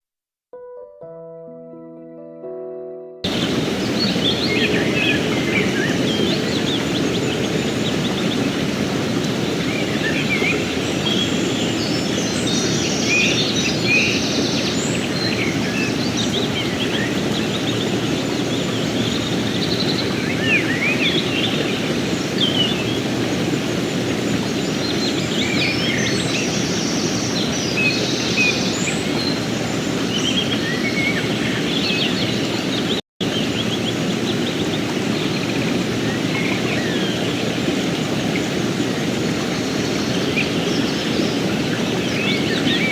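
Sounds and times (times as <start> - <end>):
birds chirping and singing: 3.3 - 42.9
river rushing over rocks: 3.3 - 42.9.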